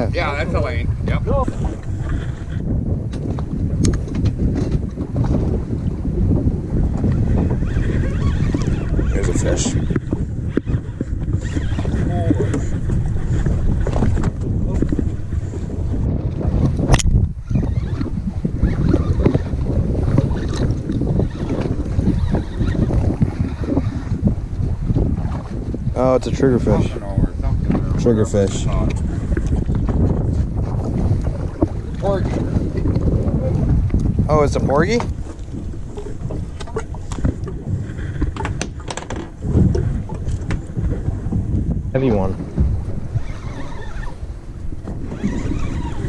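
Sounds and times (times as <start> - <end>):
boat engine low rumble: 0.0 - 46.0
wind buffeting microphone: 0.0 - 46.0.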